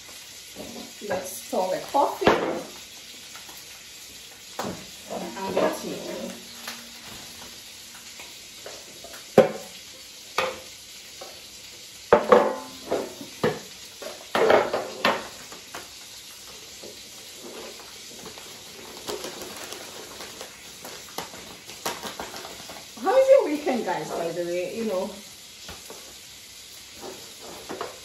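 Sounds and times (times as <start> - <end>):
fish sizzling in a pan: 0.0 - 28.0.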